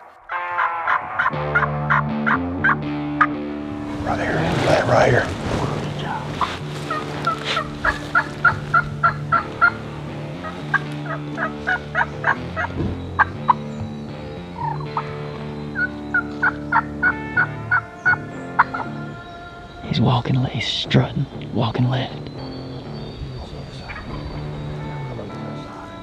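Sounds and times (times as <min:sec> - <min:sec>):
wild turkey calling: 0:00.3 - 0:26.0
steady low drone: 0:00.7 - 0:26.0.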